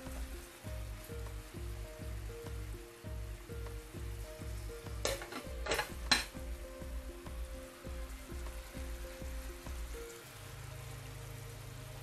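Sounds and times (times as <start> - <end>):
music with bass beat: 0.0 - 10.2
food sizzling in a pan: 0.0 - 12.0.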